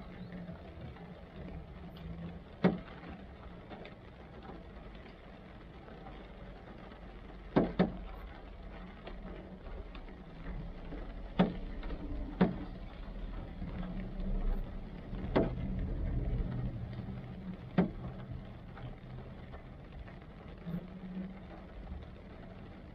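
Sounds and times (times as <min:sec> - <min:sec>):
low steady rumble: 0:00.0 - 0:22.9
raindrops tapping on car body: 0:00.0 - 0:22.9.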